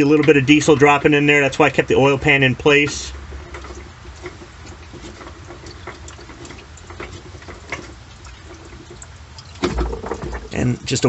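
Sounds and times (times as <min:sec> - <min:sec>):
fuel dripping into pan: 0:00.0 - 0:11.0.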